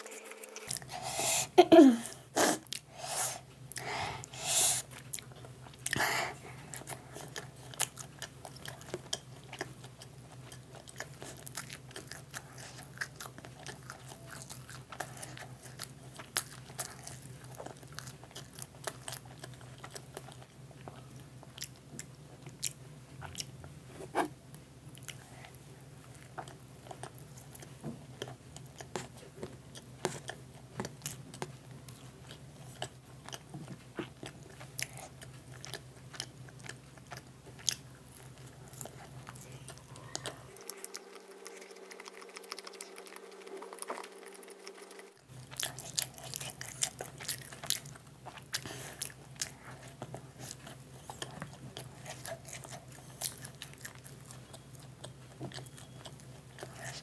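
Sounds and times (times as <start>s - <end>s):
chewing soft food: 2.2s - 57.0s.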